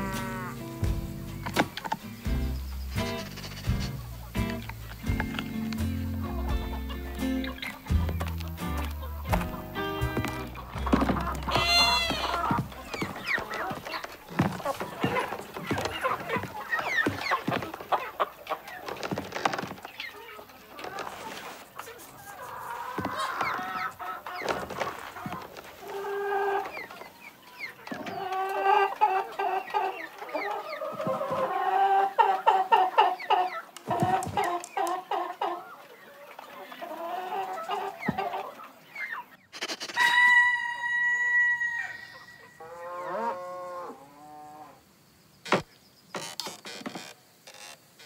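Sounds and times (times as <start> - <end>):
hens clucking: 0.0 - 44.3.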